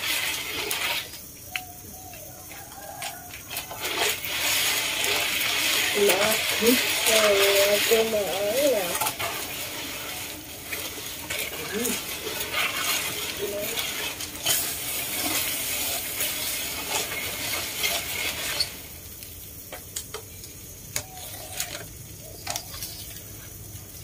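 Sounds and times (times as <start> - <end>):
boiling water and shells churning: 0.0 - 24.0.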